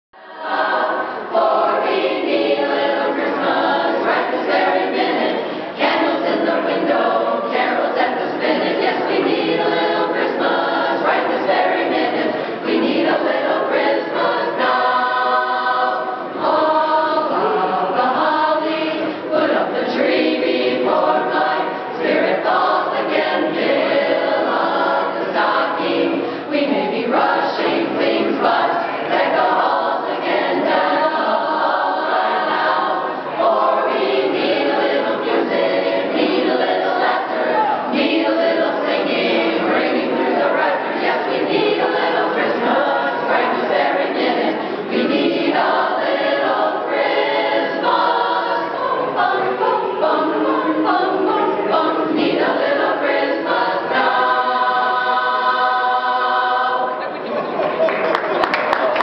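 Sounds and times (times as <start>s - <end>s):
women's chorus singing a cappella: 0.2s - 57.6s.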